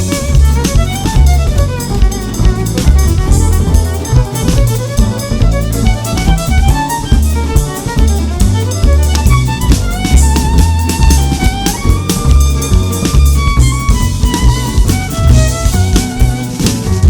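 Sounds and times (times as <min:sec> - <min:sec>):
music with drum beat and bass: 0:00.0 - 0:17.0.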